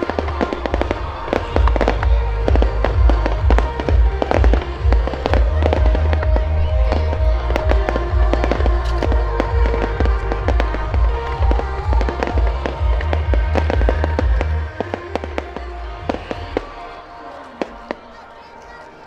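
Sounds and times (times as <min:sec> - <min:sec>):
deep fireworks booms: 0:00.0 - 0:15.3
fireworks bangs and crackles: 0:00.0 - 0:18.1
music: 0:00.0 - 0:19.0.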